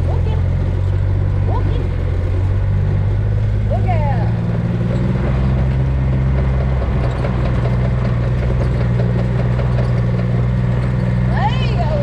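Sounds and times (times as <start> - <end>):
farm vehicle engine running: 0.0 - 12.0.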